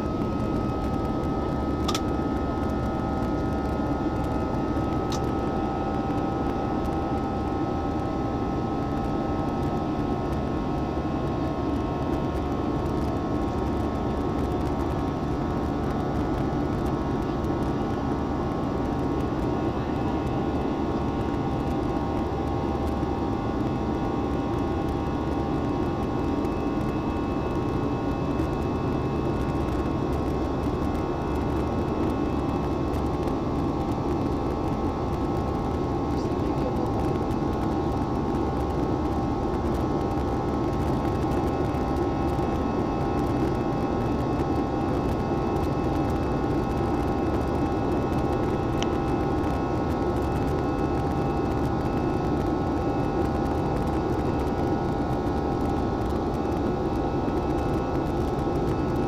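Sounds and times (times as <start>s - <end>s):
jet engines droning: 0.0s - 59.0s
steady whining tones: 0.0s - 59.0s.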